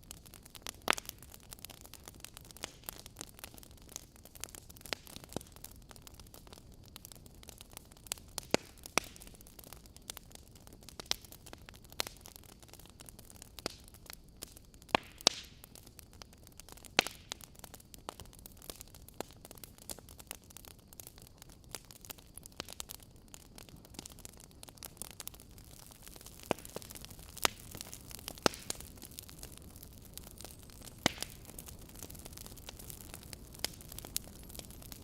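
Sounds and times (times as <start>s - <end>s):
fireplace fire crackling: 0.0s - 35.0s.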